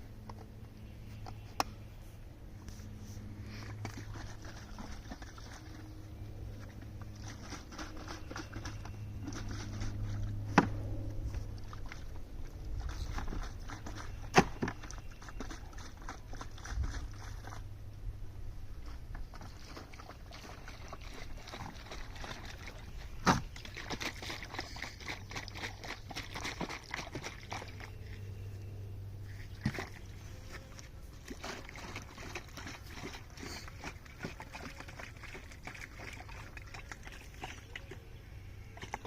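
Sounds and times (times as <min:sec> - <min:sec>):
syrup sloshing and trickling: 0:03.3 - 0:17.8, 0:19.0 - 0:28.5, 0:29.2 - 0:39.0.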